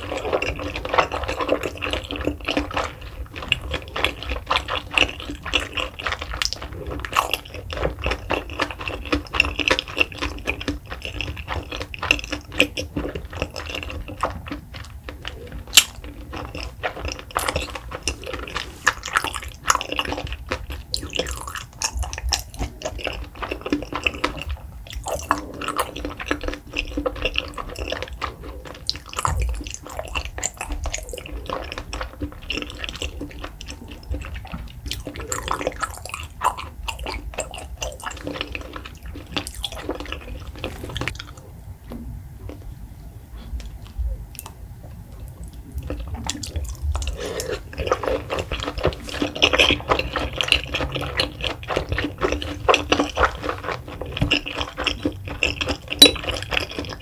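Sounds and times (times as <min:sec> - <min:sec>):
wet chewing: 0:00.0 - 0:42.8, 0:43.4 - 0:57.0.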